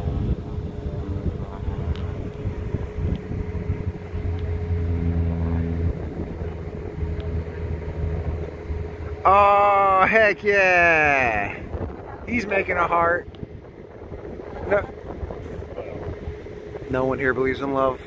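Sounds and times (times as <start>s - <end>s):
airplane engine running: 0.0s - 18.0s.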